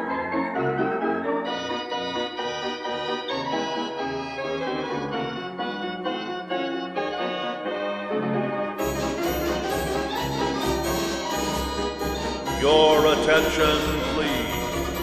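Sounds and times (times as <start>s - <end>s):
mechanical organ playing tune: 0.0s - 15.0s.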